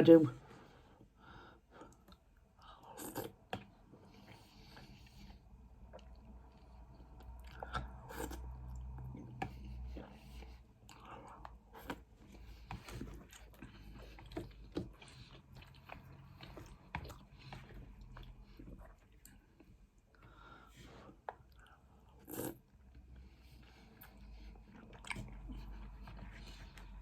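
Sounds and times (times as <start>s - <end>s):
chewing noodles close up: 1.8s - 20.2s, 21.0s - 27.0s.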